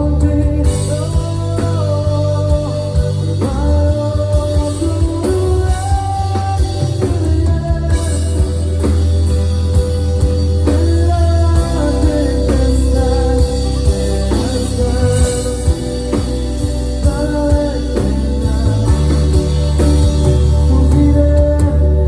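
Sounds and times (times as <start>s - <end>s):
heavy bass line: 0.0s - 22.0s
worship band playing: 0.0s - 22.0s.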